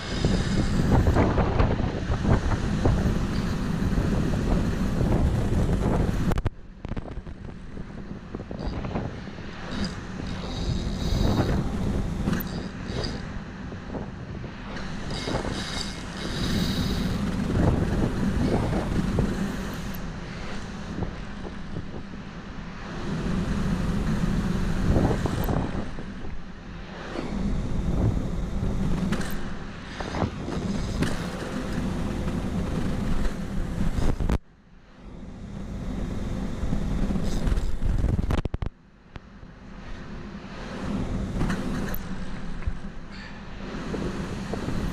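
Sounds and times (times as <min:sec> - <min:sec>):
wind buffeting microphone: 0:00.0 - 0:34.4, 0:35.2 - 0:38.7, 0:39.7 - 0:44.9.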